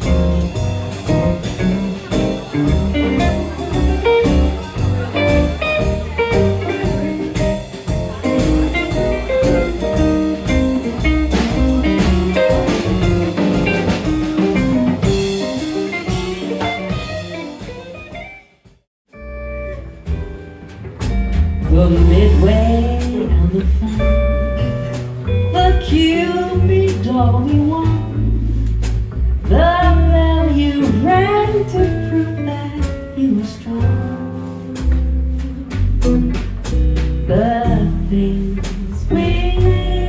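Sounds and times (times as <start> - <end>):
drums: 0.0 - 40.0
jazz guitar: 0.0 - 40.0
piano: 0.0 - 40.0
walking bass: 0.0 - 40.0.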